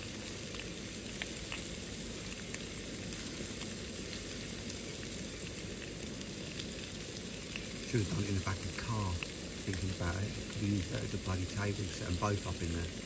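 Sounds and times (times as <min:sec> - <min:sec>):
fat popping and crackling: 0:00.0 - 0:13.0
sausages sizzling in frying pan: 0:00.0 - 0:13.0.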